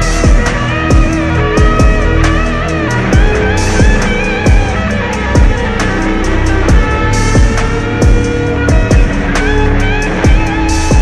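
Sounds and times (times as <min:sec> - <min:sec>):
deep kick drums: 0:00.0 - 0:11.0.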